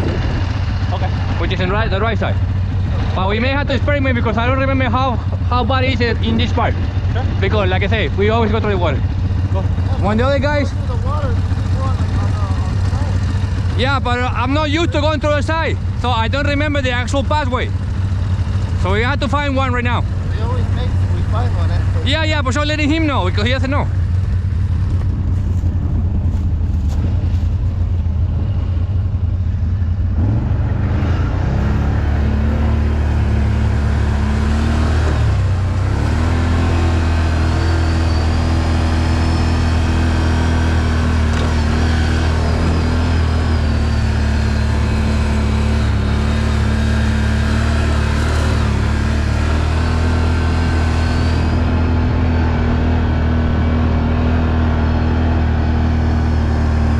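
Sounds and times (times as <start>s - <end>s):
atv engine revving: 0.0s - 56.9s.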